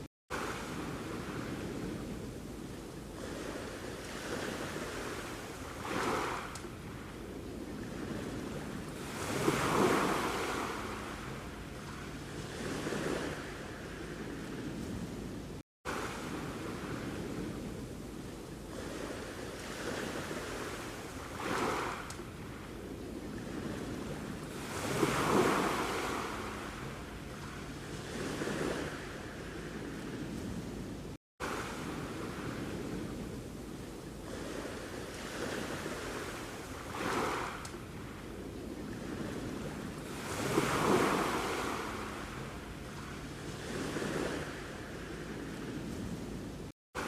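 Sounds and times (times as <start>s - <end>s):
sea waves breaking on shore: 0.0s - 47.0s
wind noise: 0.0s - 47.0s.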